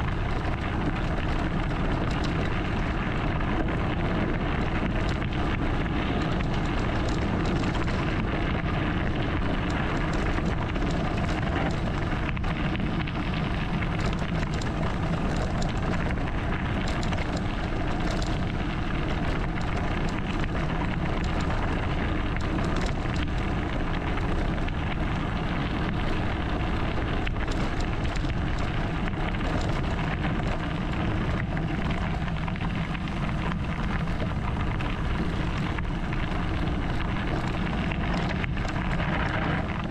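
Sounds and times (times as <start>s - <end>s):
small clicks and rattles: 0.0s - 39.9s
wind rumbling on microphone: 0.0s - 39.9s.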